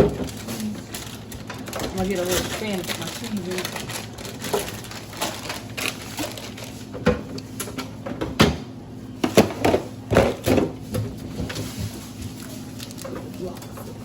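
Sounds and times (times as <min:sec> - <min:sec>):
groceries knocking and clattering: 0:00.0 - 0:14.0.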